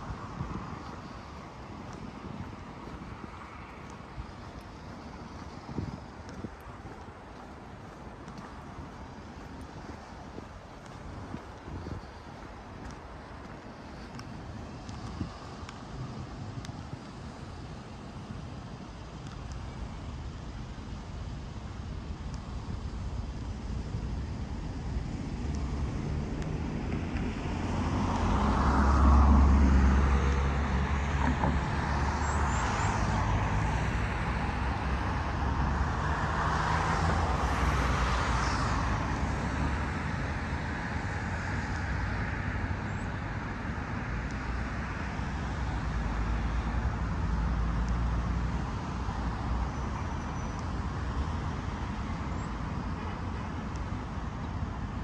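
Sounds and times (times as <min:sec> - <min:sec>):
vehicles passing: 0:00.0 - 0:18.6, 0:23.0 - 0:55.0
road traffic rumble: 0:00.0 - 0:55.0.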